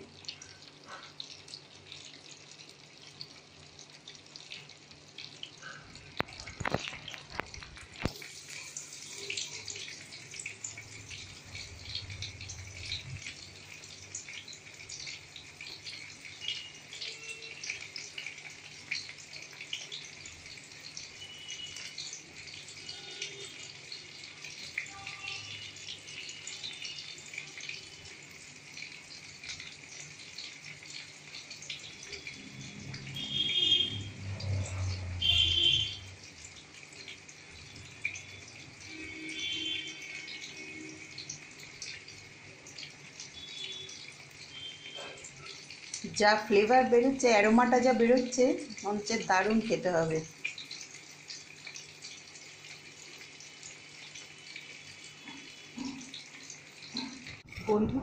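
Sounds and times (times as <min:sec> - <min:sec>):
oil sizzling and crackling: 0:00.0 - 0:58.0.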